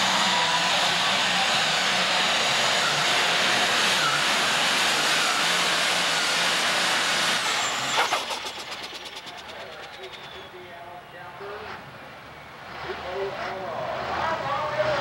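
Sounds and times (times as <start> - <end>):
tractor diesel engine roaring: 0.0 - 15.0.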